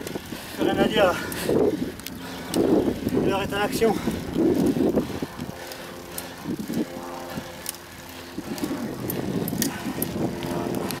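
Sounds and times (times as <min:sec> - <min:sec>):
wind and road noise: 0:00.0 - 0:11.0
vehicle engine running: 0:01.4 - 0:11.0.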